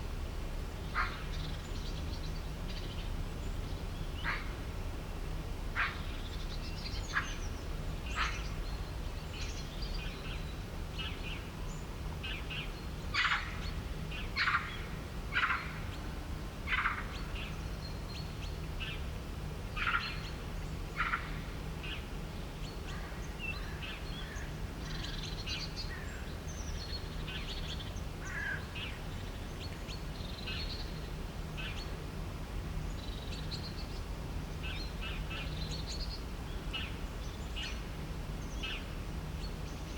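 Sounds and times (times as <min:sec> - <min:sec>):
low hum and rumble: 0:00.0 - 0:39.9.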